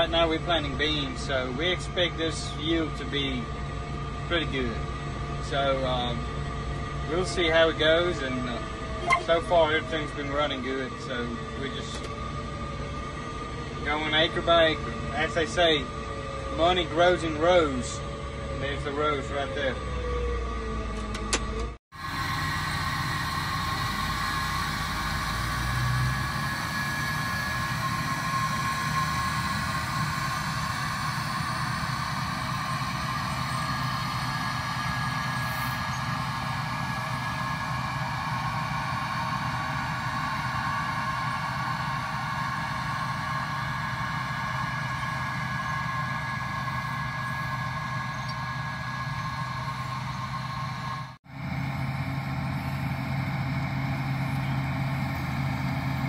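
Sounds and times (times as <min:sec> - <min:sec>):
steady whine: 0:00.0 - 0:20.0, 0:21.0 - 0:56.0
tractor engine drone: 0:00.0 - 0:56.0.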